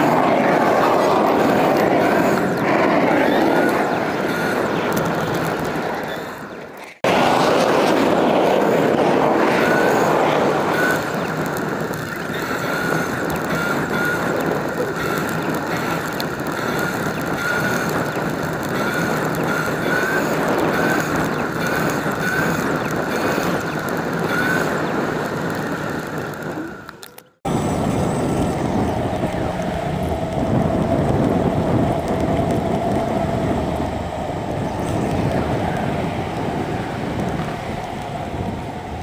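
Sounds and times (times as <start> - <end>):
wind noise on microphone: 0.0 - 39.0.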